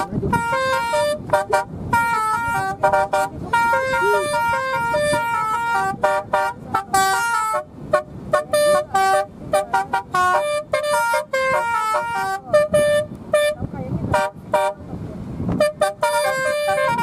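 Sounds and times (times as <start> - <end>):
multi-tone musical vehicle horn: 0.0 - 14.9, 15.5 - 17.0.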